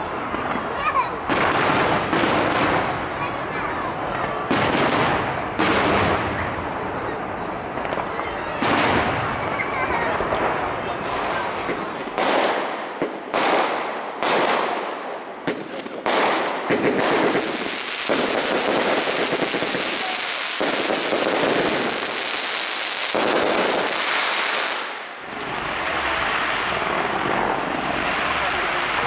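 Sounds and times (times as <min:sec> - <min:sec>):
firework bangs: 0:00.0 - 0:29.0
firework crackling: 0:00.0 - 0:29.0.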